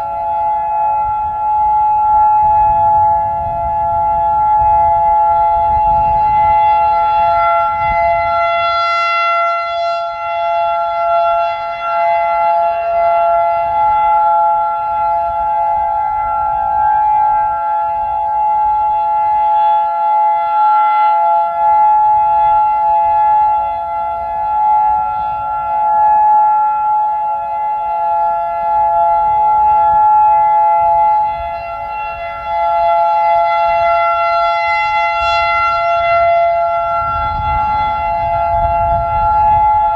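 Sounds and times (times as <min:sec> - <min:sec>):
warning sirens: 0:00.0 - 0:39.9
wind rumble on microphone: 0:00.0 - 0:39.9.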